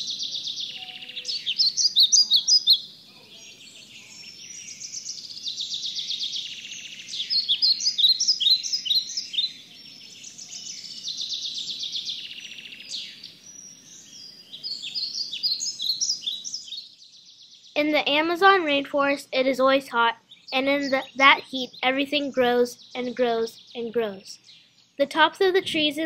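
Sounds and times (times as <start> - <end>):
birds chirping and trilling: 0.0 - 26.0.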